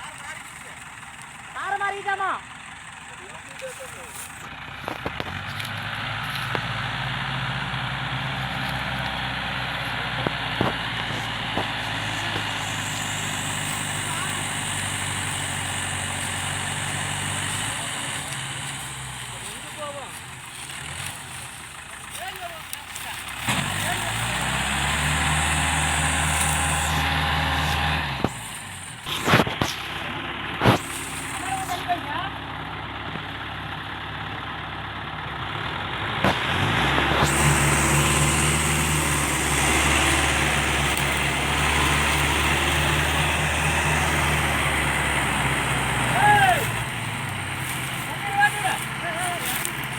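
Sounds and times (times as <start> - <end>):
diesel engine running at low revs: 0.0 - 49.9.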